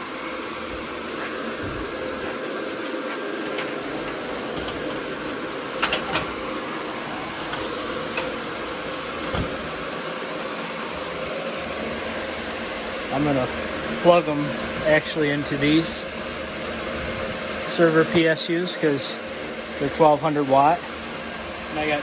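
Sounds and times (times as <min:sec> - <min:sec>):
cooling fans whirring: 0:00.0 - 0:22.0.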